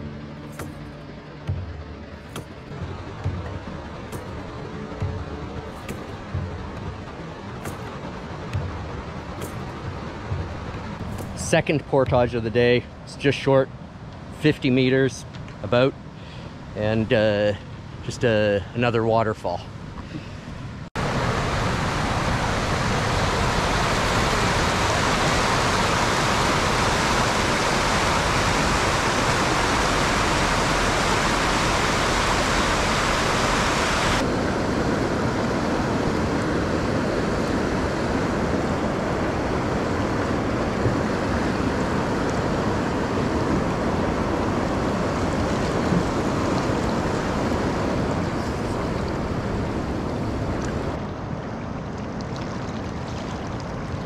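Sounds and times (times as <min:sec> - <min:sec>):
water rushing over rocks: 0:01.5 - 0:13.3, 0:21.0 - 0:54.0.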